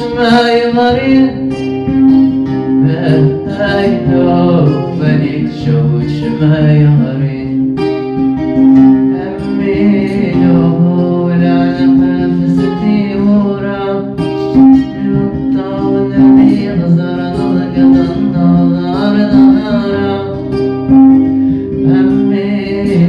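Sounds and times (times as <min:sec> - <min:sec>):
guitar plucked and strummed: 0:00.0 - 0:23.0
person singing: 0:00.0 - 0:23.0.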